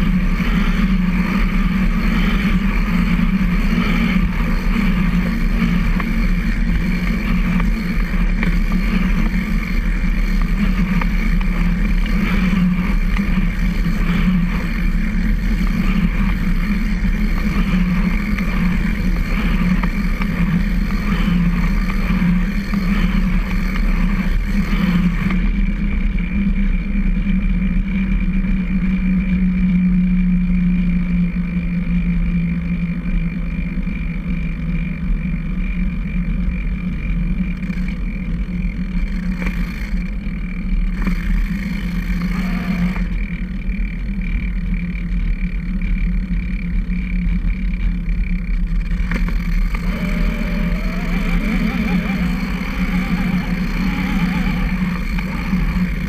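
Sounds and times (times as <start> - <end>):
tyres and chain drive humming: 0.0 - 56.0.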